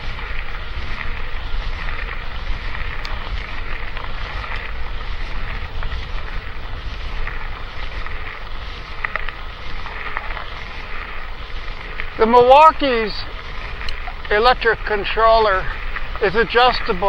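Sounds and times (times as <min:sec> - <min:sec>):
bike rolling noise: 0:00.0 - 0:17.0
small ticks: 0:00.0 - 0:17.0
wind buffeting microphone: 0:00.0 - 0:17.0.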